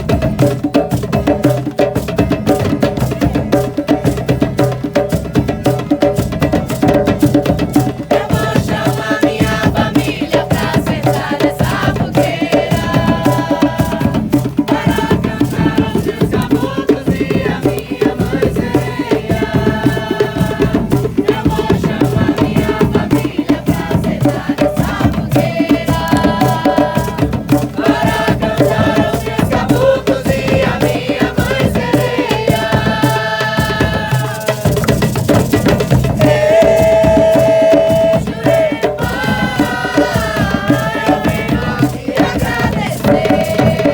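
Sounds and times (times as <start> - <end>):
hand drums and rattles: 0.0 - 43.9.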